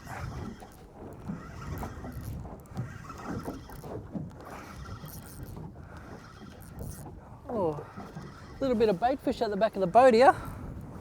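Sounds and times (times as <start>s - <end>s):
water lapping: 0.0s - 11.0s.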